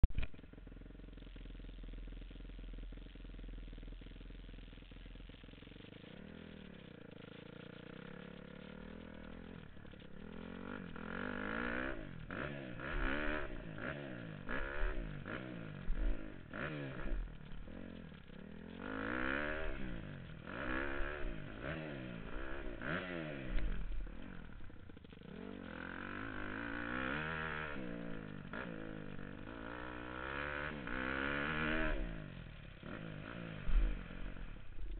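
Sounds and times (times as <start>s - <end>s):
dirt bike engine revving: 0.6s - 34.9s.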